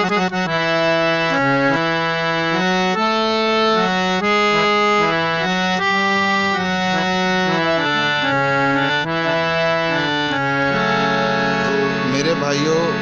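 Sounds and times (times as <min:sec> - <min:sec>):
harmonium melody: 0:00.0 - 0:13.0.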